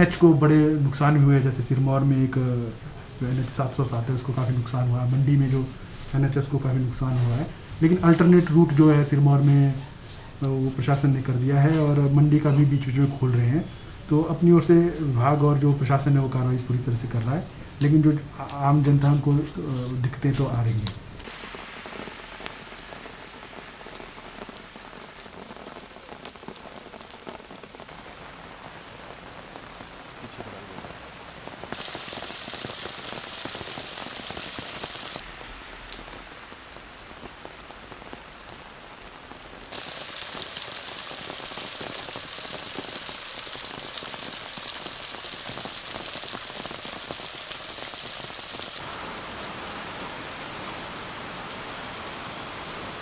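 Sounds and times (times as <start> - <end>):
heavy rain hissing: 0.0 - 12.9, 21.2 - 53.0.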